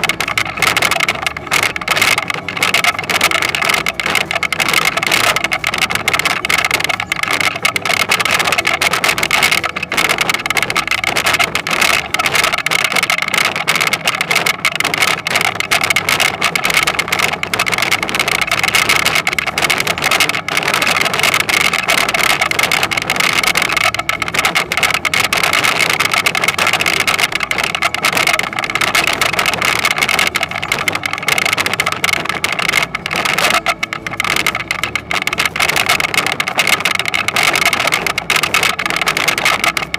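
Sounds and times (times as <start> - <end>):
rattle of machine parts: 0.0 - 39.9.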